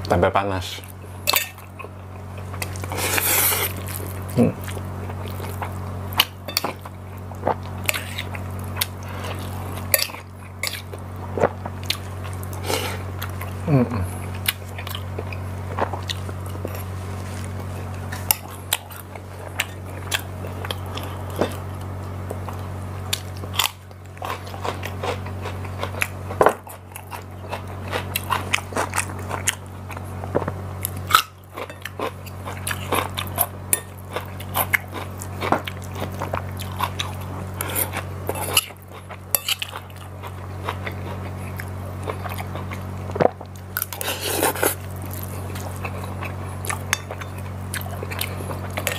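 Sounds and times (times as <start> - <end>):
chewing and crunchy bites: 1.2 - 48.9.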